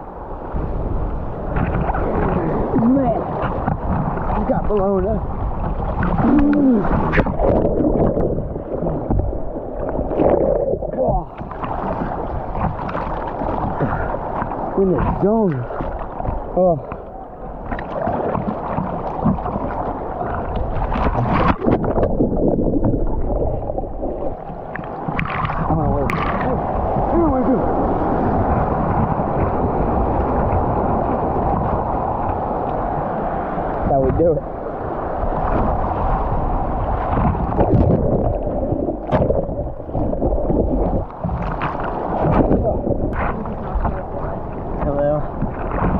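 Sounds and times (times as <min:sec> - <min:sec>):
ocean surf breaking: 0:00.0 - 0:45.9.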